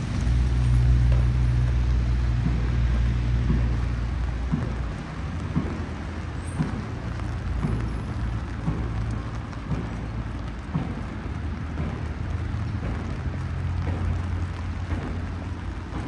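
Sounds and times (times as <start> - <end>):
low vehicle engine rumble: 0.0 - 16.0
steady rain: 0.0 - 16.0.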